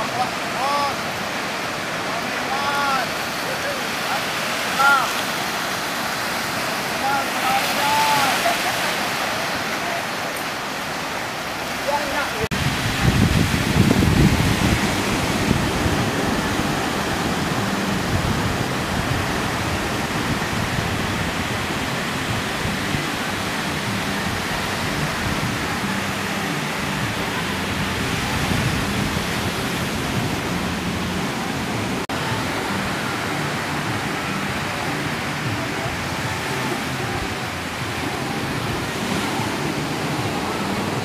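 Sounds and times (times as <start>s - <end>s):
surf breaking on a beach: 0.0s - 41.0s.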